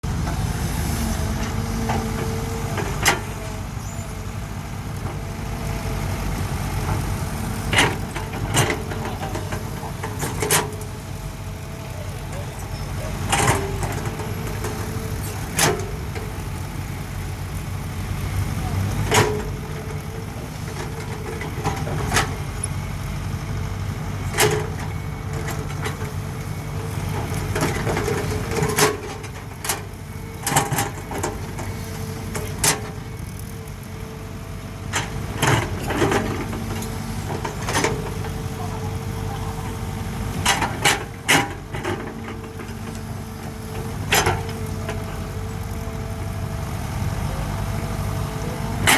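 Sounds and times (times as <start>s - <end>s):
excavator engine running: 0.0s - 48.9s.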